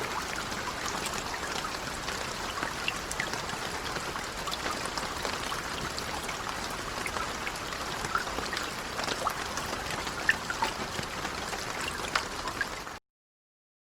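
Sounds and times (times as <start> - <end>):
rain drops pattering: 0.0 - 13.0.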